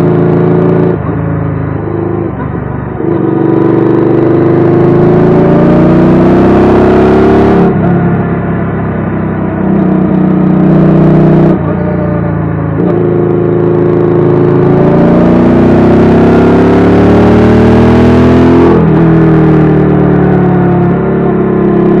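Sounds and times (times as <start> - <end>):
motorcycle engine running: 0.0 - 17.8, 18.8 - 22.0.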